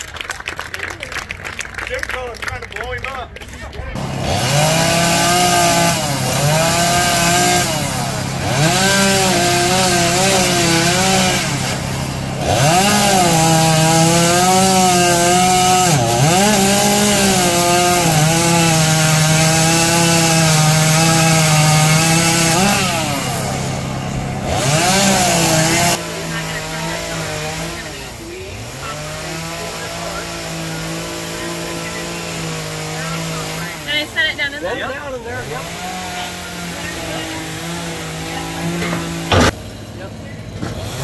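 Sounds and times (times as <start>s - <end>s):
chainsaw revving into wood: 4.0s - 41.0s.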